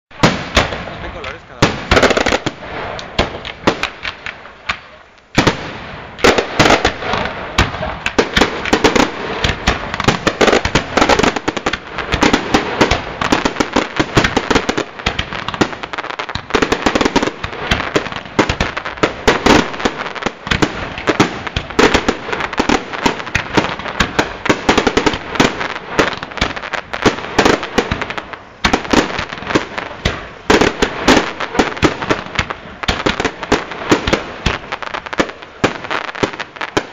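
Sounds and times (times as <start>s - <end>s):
fireworks bangs and crackles: 0.1s - 36.9s.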